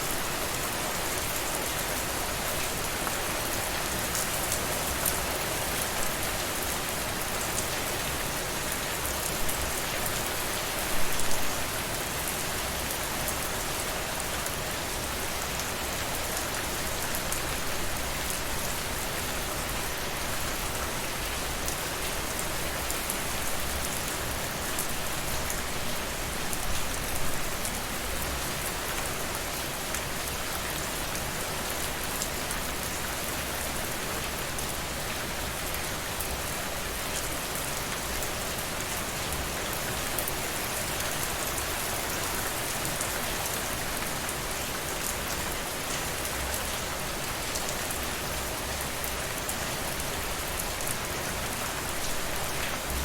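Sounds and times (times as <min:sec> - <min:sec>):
steady rainfall: 0:00.0 - 0:53.0.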